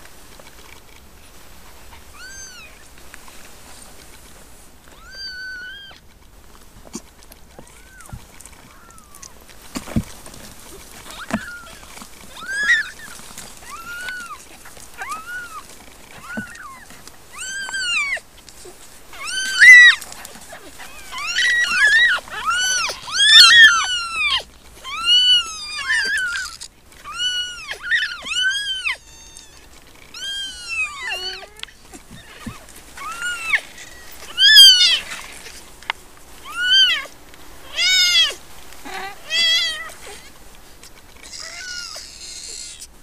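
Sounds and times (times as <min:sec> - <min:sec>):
kittens mewing: 0:01.9 - 0:03.0, 0:04.8 - 0:06.1, 0:06.8 - 0:43.0.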